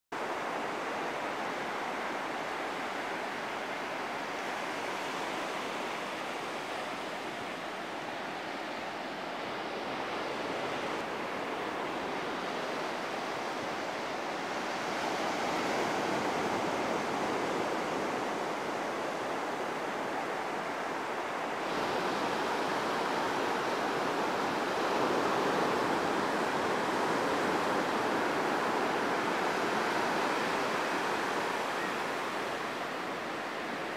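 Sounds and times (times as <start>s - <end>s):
ocean waves breaking on beach: 0.2s - 33.9s.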